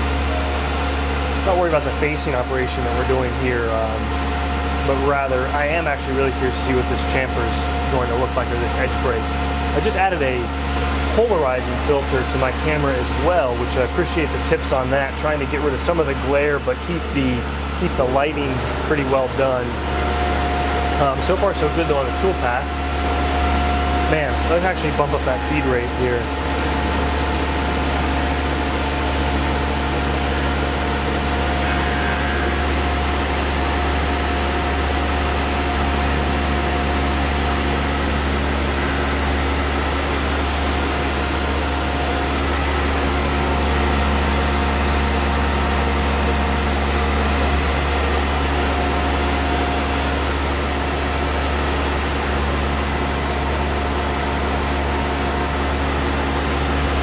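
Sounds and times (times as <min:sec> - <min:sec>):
milling machine hum and whine: 0:00.0 - 0:57.0.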